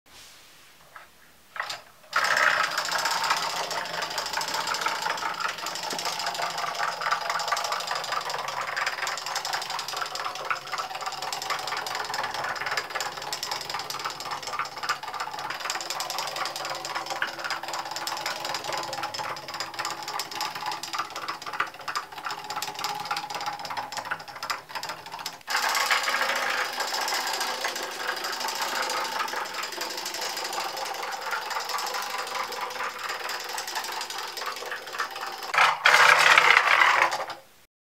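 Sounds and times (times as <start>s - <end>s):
wooden gears clattering: 0.8s - 37.5s.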